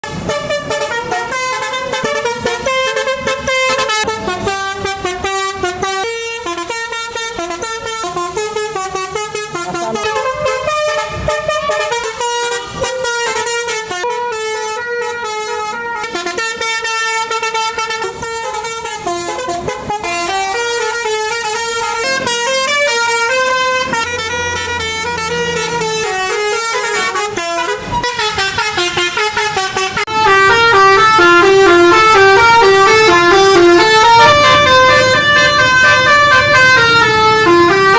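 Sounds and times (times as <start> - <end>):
bus horn playing melody: 0.0 - 37.9.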